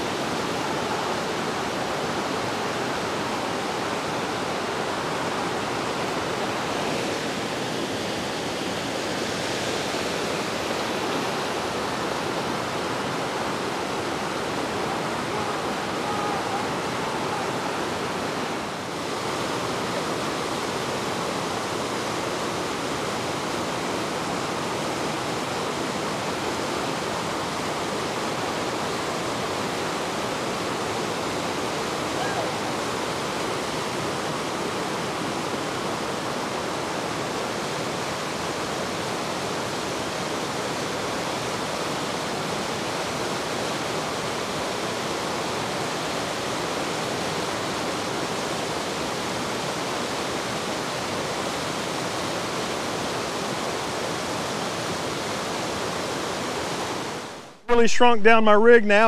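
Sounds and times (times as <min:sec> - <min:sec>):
whitewater rapids rushing: 0:00.0 - 0:57.8.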